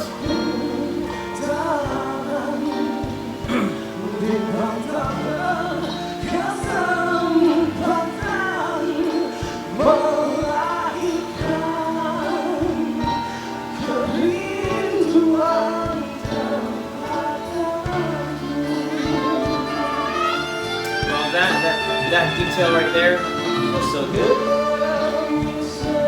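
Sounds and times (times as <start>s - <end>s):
band accompaniment: 0.0s - 26.0s
person singing ornamented ballad: 0.0s - 26.0s.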